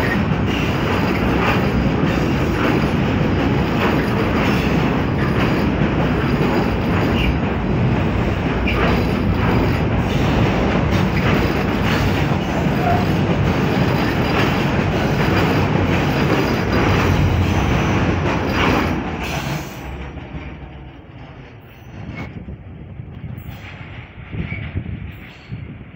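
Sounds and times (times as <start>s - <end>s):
wheels clacking over rail joints: 0.0s - 22.5s
freight train rumbling past: 0.0s - 25.9s.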